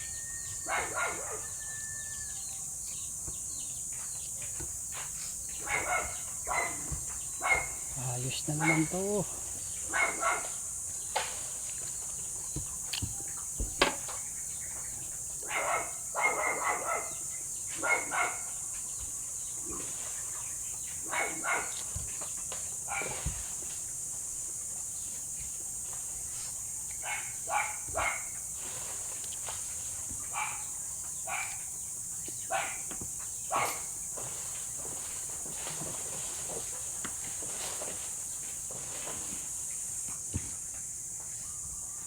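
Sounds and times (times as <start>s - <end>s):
high insect buzz: 0.0s - 42.0s.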